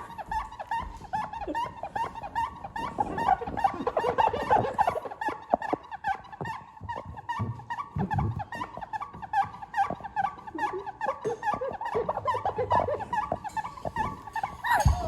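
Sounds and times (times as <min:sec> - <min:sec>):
rapid high-pitched squeaking: 0:00.0 - 0:15.0.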